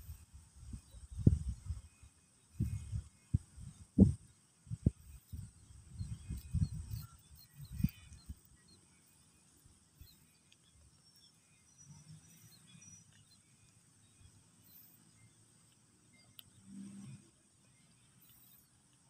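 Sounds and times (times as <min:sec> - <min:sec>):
faint bird chirps: 0:00.0 - 0:19.0
steady high hiss: 0:00.0 - 0:19.0.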